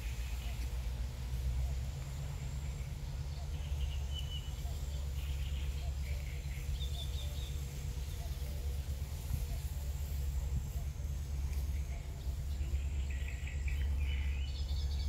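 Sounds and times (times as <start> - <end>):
faint bird chirps: 0.0 - 15.0
steady low rumble: 0.0 - 15.0.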